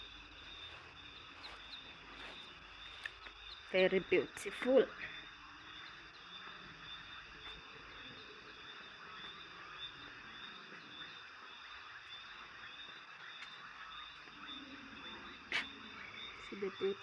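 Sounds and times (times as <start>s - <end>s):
high insect trill: 0.0s - 17.0s
insects and frogs calling: 0.0s - 17.0s.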